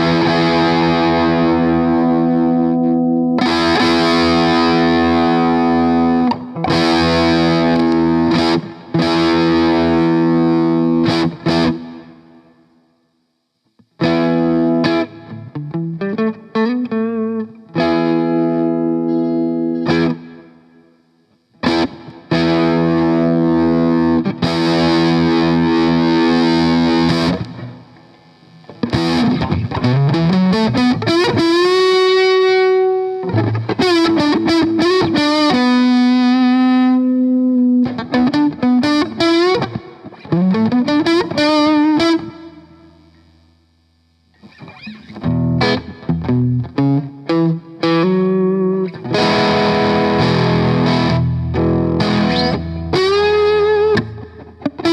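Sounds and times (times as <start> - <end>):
distorted electric guitar: 0.0 - 54.9.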